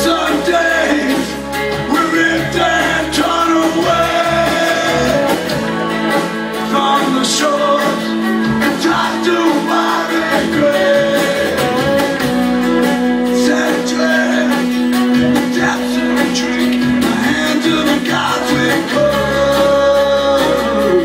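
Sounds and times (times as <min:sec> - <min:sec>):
live folk-rock band playing: 0:00.0 - 0:21.0.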